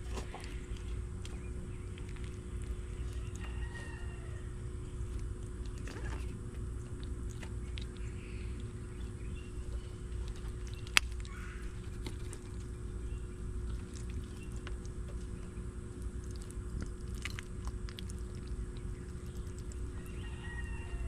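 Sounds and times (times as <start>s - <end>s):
reptile chewing food: 0.0s - 21.0s
steady low hum: 0.0s - 21.0s.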